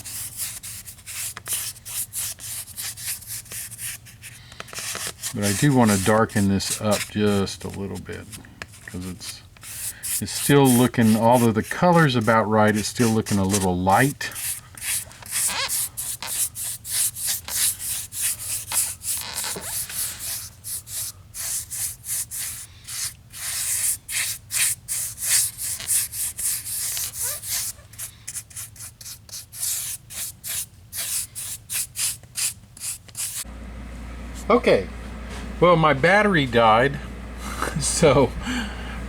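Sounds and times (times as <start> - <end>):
paintbrush scrubbing strokes: 0.0 - 33.5.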